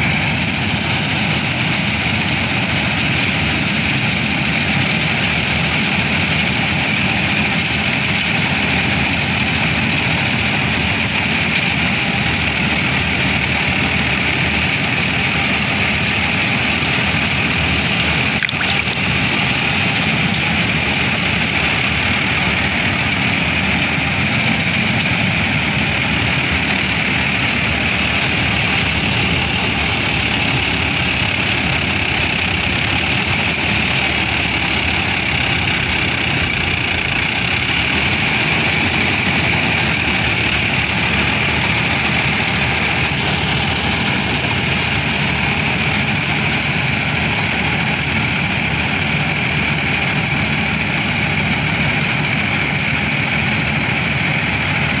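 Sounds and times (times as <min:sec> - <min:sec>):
harvester machinery drone: 0:00.0 - 0:55.0
tractor diesel engine: 0:00.0 - 0:55.0.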